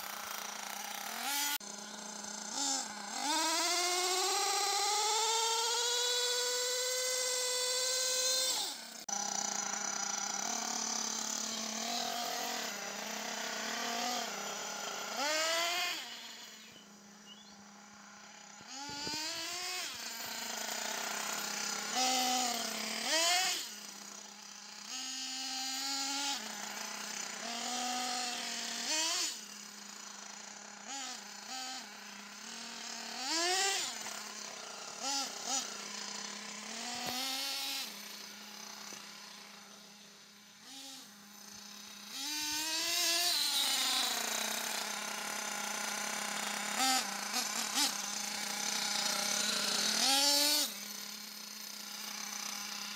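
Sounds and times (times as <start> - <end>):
model engine revving: 0.0 - 52.9.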